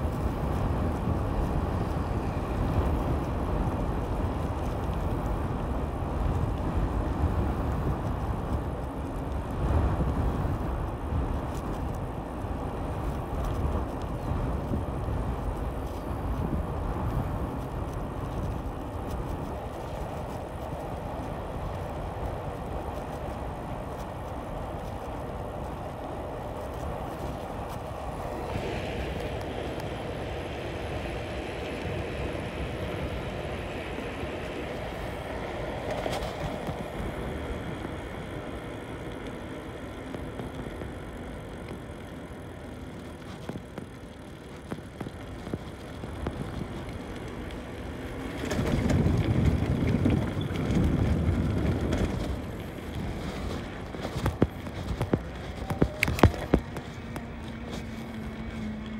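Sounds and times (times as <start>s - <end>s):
tyre hum: 0.0s - 58.9s
wind rushing over microphone: 0.0s - 58.9s.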